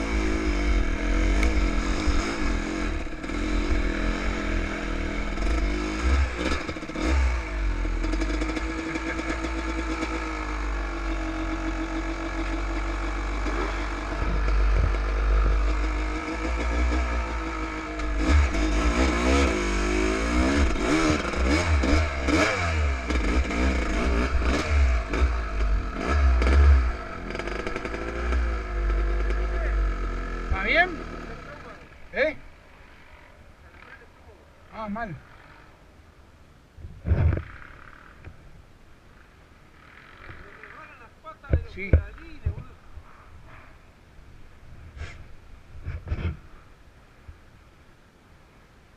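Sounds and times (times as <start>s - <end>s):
motorcycle engine revving: 0.0s - 35.9s, 37.0s - 38.4s, 39.2s - 42.8s.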